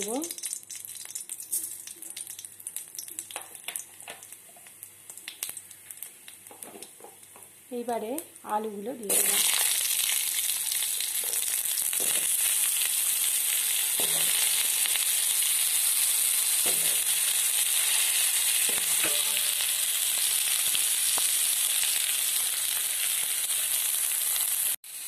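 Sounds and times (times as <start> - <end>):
potatoes sizzling in hot oil: 0.0 - 25.0.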